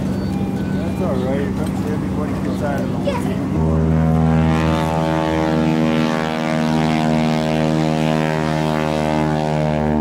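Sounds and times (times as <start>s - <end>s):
piston aircraft engine droning: 0.0s - 10.0s.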